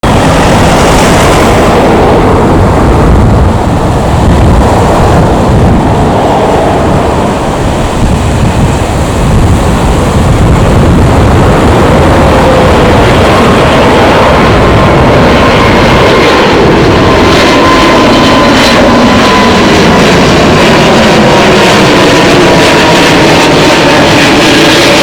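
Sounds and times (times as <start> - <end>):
faint engine whine: 0.0 - 25.0
jet engines roaring: 0.0 - 25.0
wind buffeting microphone: 0.0 - 25.0.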